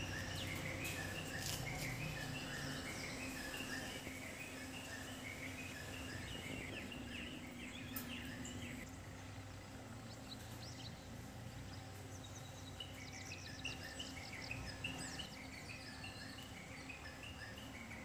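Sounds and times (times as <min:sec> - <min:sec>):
faint outdoor background noise: 0:00.0 - 0:18.0
small birds chirping and twittering: 0:00.0 - 0:18.0.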